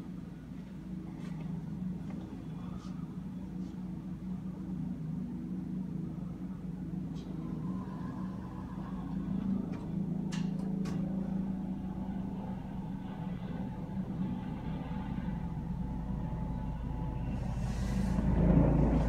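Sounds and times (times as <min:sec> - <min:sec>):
helicopter rotor hum: 0:00.0 - 0:19.0.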